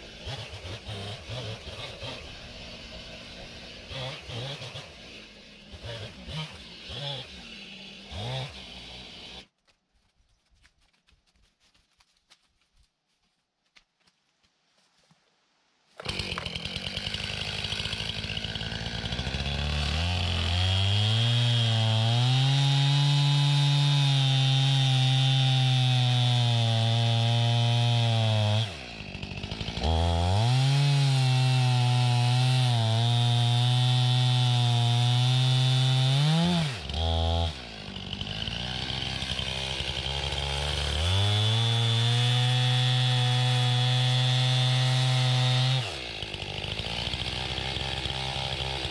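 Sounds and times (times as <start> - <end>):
chainsaw cutting log: 0.0 - 9.6, 16.0 - 48.9.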